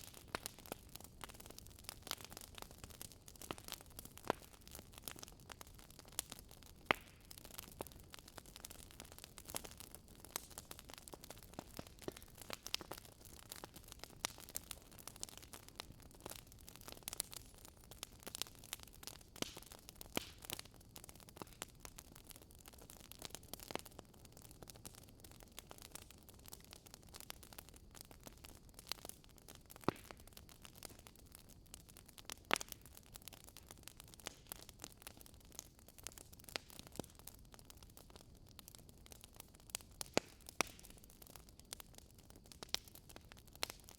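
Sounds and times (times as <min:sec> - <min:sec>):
soft steady hiss: 0:00.0 - 0:43.9
wood fire crackling and popping: 0:00.0 - 0:43.9.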